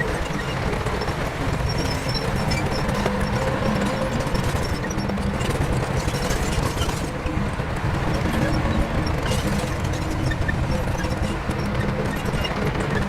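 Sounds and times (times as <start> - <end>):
heavy diesel machinery running: 0.0 - 13.0
metallic clicks and clanks: 0.0 - 13.0.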